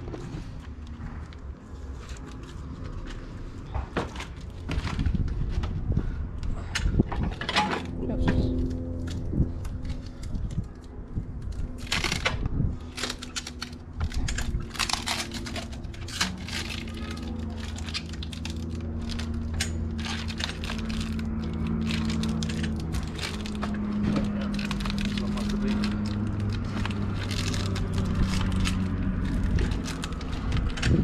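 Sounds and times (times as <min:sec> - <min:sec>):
clicking and crinkling handling noise: 0:00.0 - 0:31.0
steady low hum: 0:00.0 - 0:31.0.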